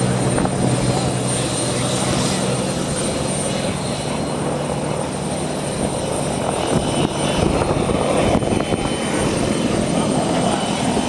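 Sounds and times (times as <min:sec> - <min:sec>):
aircraft engine running: 0:00.0 - 0:11.0.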